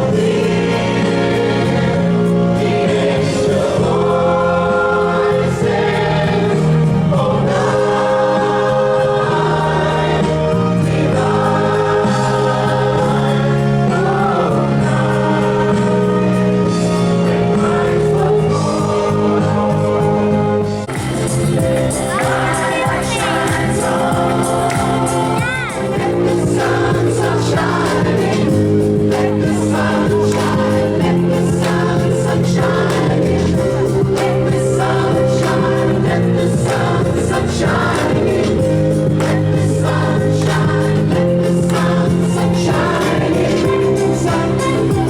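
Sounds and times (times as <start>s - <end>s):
choir singing in harmony: 0.0s - 45.0s.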